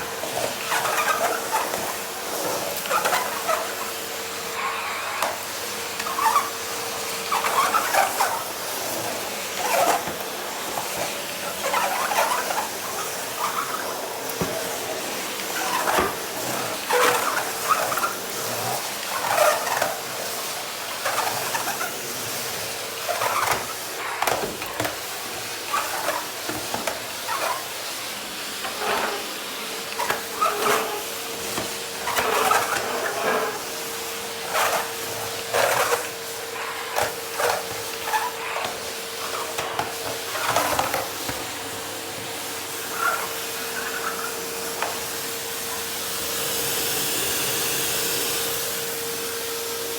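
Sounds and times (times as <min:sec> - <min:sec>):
vacuum cleaner hum: 0:00.0 - 0:49.9.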